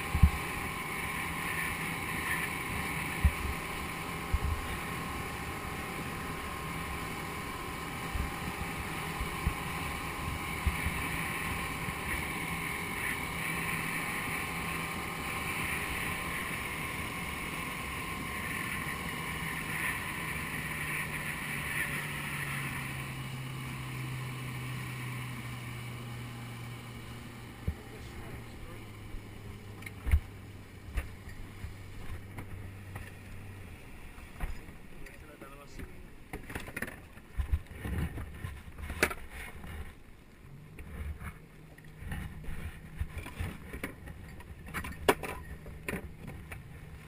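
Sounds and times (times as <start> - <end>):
boat motor running: 0.0 - 47.0
water rushing along hull: 0.0 - 47.0.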